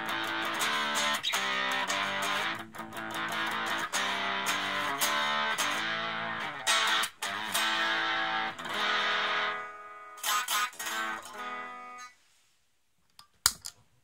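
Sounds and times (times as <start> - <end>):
electric guitar chords: 0.0 - 12.0.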